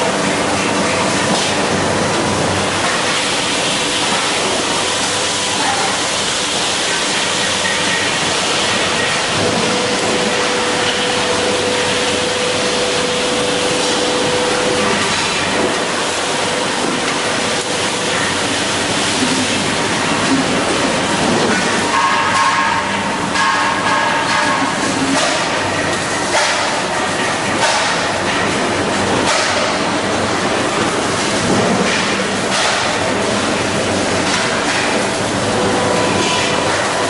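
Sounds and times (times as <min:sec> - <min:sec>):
continuous rushing hiss: 0:00.0 - 0:37.0.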